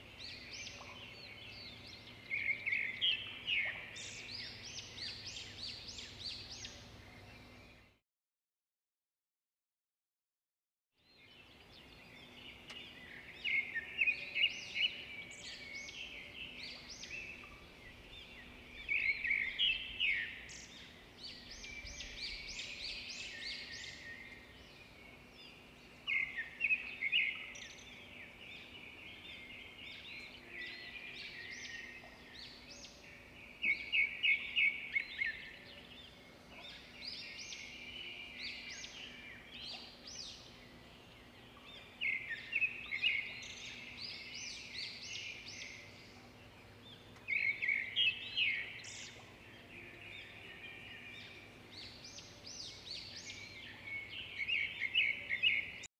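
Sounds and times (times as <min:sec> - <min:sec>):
birds chirping and singing: 0:00.0 - 0:08.0, 0:11.1 - 0:55.9.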